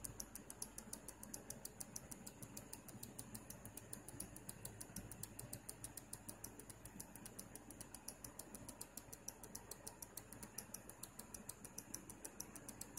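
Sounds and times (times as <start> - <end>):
power supply high-pitched ticking: 0.0 - 12.9.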